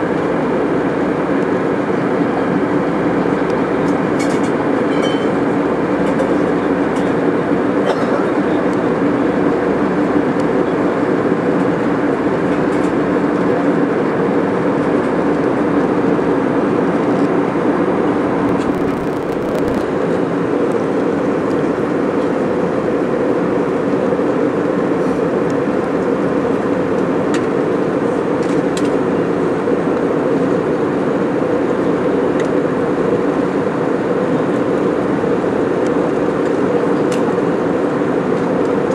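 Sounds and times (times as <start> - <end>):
airliner cabin engine noise: 0.0 - 38.9
constant low hum: 3.2 - 38.9.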